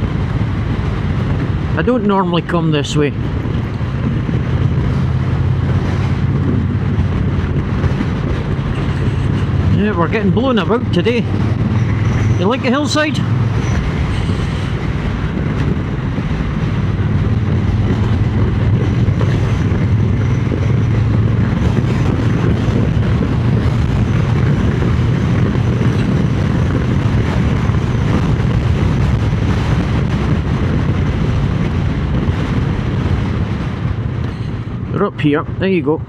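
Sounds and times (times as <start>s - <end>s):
motorcycle engine running: 0.0s - 34.9s
wind buffeting microphone: 0.0s - 36.0s.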